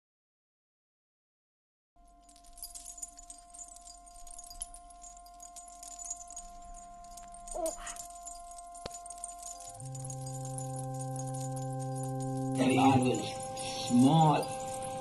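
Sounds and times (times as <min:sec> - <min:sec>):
held drone tones: 0:02.7 - 0:15.0.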